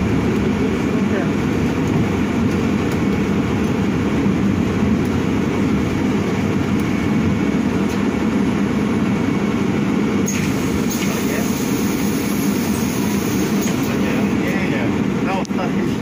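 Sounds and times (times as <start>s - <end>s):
bus tyres and road rumble: 0.0s - 16.0s.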